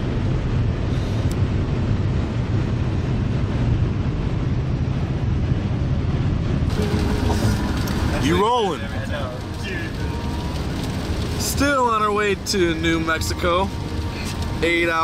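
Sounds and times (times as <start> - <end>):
road noise: 0.0 - 15.0
vehicle engine: 0.0 - 15.0.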